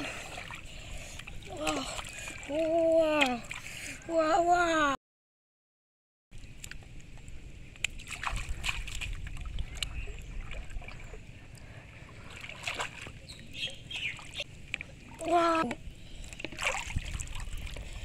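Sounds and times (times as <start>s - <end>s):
person wading through water: 0.0s - 4.5s, 7.8s - 18.0s.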